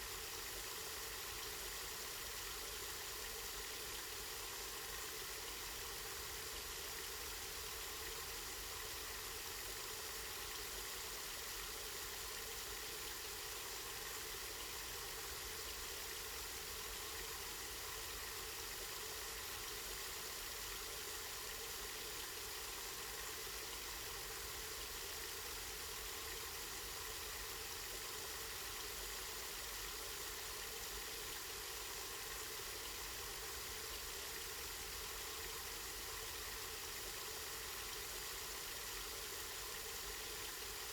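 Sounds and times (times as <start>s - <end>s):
spring water flowing: 0.1s - 40.9s.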